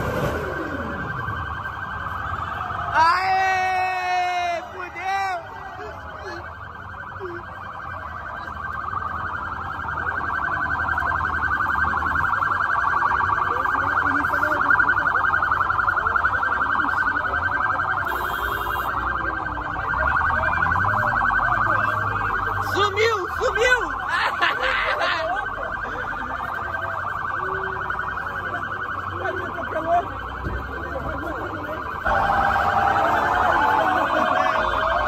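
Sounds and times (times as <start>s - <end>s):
crowd voices: 0.0s - 35.0s
police siren warbling: 0.0s - 35.0s.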